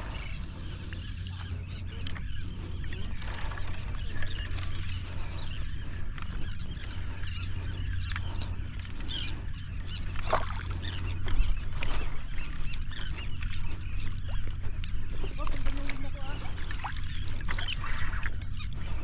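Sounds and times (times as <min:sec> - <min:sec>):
flock of birds calling: 0:00.0 - 0:19.0
steady low hum: 0:00.0 - 0:19.0.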